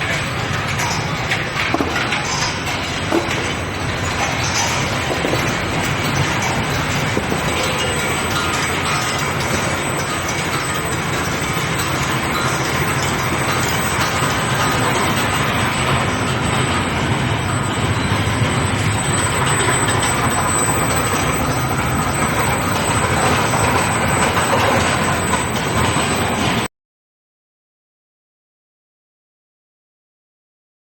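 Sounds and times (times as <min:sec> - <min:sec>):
machinery metallic clatter and rattling: 0:00.0 - 0:26.7.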